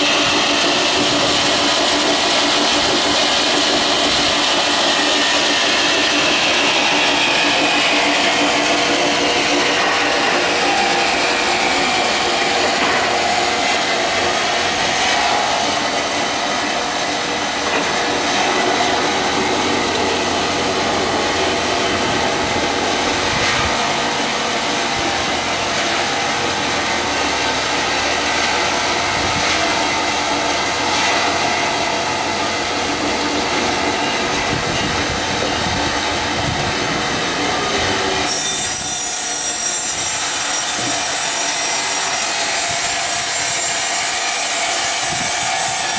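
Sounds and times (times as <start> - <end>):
power saw cutting wood: 0.0 - 45.9.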